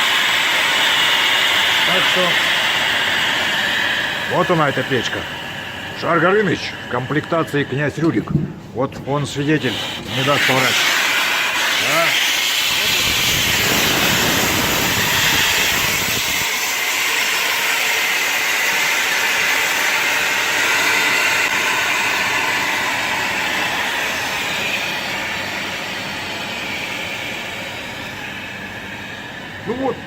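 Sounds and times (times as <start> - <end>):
steam hissing from sauna stove: 0.0 - 8.1, 9.2 - 30.0.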